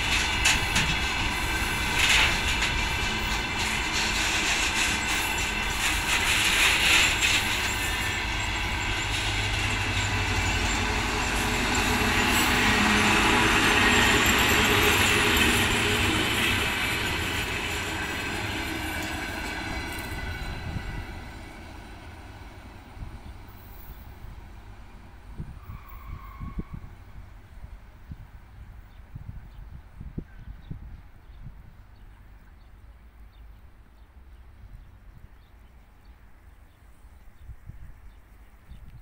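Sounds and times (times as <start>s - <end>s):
railway machines rolling on rails: 0.0s - 39.0s.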